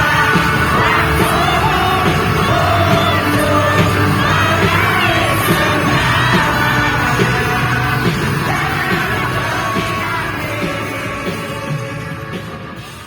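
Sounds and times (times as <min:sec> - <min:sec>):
live pop-rock band music: 0:00.0 - 0:13.0
person singing: 0:00.0 - 0:13.0.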